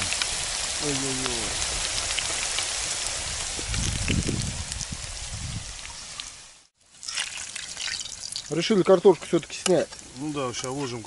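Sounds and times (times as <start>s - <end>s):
potatoes sizzling in pan: 0.0s - 11.0s.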